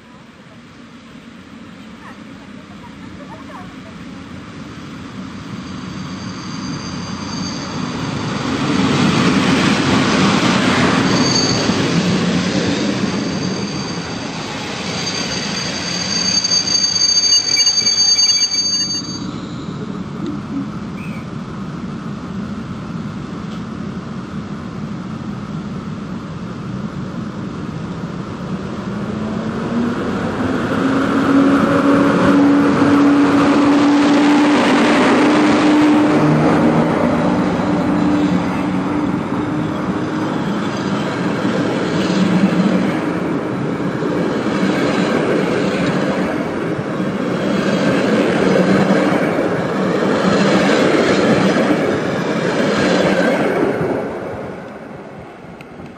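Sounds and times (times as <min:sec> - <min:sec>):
electric locomotive humming: 0:00.0 - 0:55.9.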